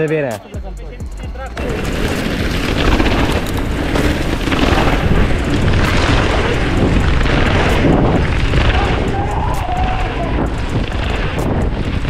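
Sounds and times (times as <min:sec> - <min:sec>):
bike rattles and knocks: 0:01.6 - 0:12.0
wind buffeting microphone: 0:01.6 - 0:12.0.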